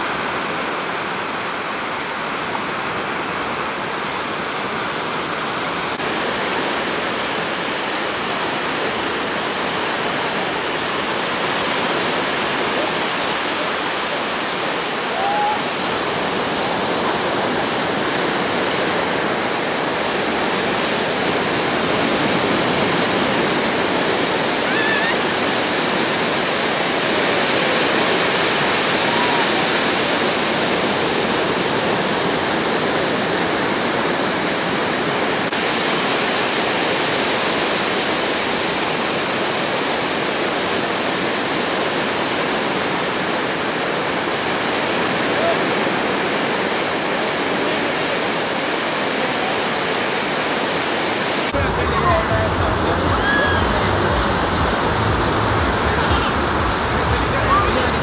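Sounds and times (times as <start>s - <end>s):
sea surf on a beach: 0.0s - 58.0s.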